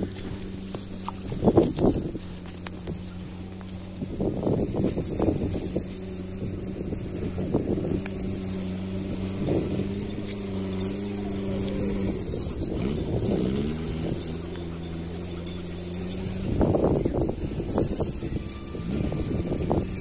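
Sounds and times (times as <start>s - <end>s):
engine humming: 0.0s - 20.0s
high chirping: 0.0s - 20.0s.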